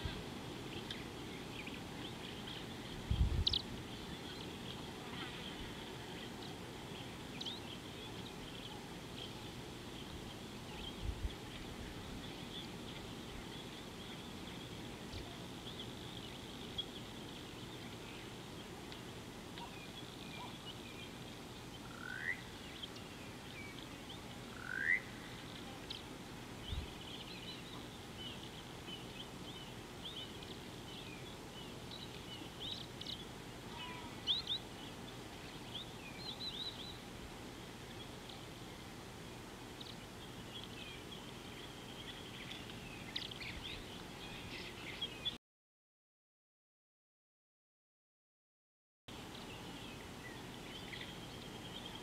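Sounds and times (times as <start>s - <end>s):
birds chirping: 0.0s - 45.4s, 49.1s - 52.0s
steady outdoor hiss: 0.0s - 45.4s, 49.1s - 52.0s.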